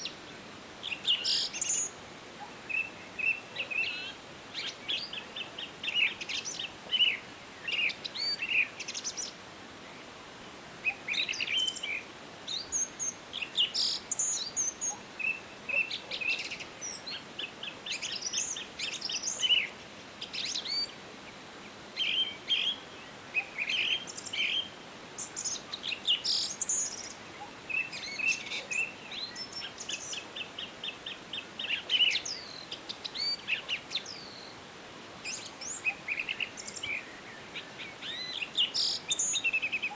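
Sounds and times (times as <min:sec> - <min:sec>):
faint steady hiss: 0:00.0 - 0:39.9
songbirds singing and calling: 0:00.0 - 0:39.9.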